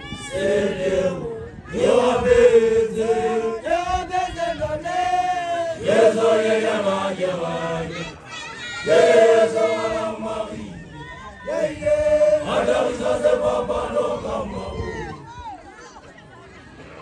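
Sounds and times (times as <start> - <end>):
voices chanting together: 0.0 - 15.3.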